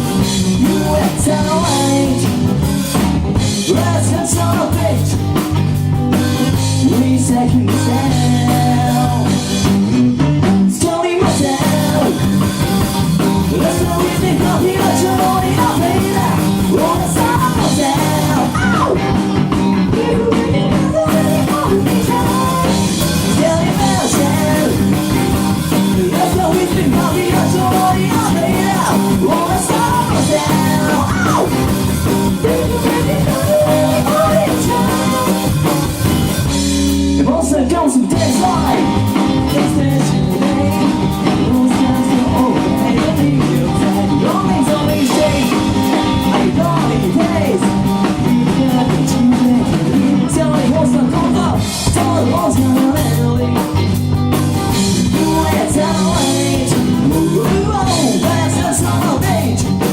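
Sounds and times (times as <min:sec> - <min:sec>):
person singing: 0:00.0 - 0:05.3, 0:06.2 - 0:09.6, 0:10.7 - 0:36.1, 0:37.1 - 0:54.1, 0:54.7 - 0:59.9
drum kit: 0:00.0 - 0:59.9
guitar: 0:00.0 - 0:59.9
rock band playing live: 0:00.0 - 0:59.9.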